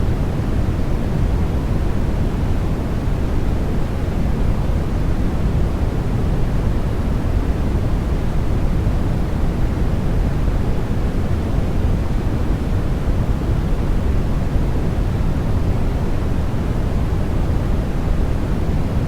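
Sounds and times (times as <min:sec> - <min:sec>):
white noise hiss: 0:00.0 - 0:19.0.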